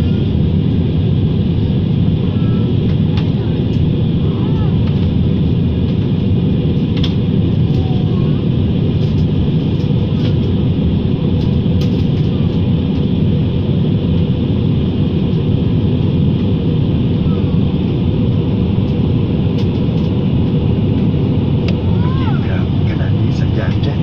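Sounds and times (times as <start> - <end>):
aircraft cabin roar: 0.0 - 24.0.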